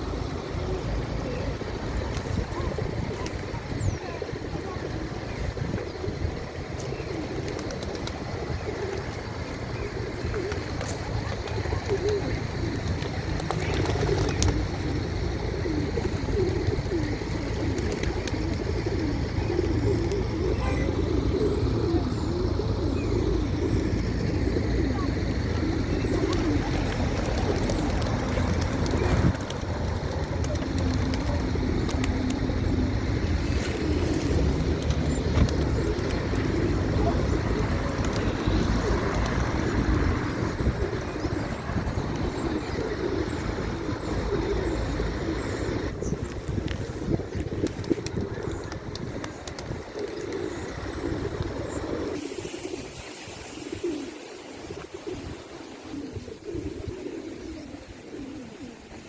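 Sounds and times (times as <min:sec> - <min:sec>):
pigeons cooing: 0:00.0 - 0:59.0
road traffic rumble: 0:00.0 - 0:59.0.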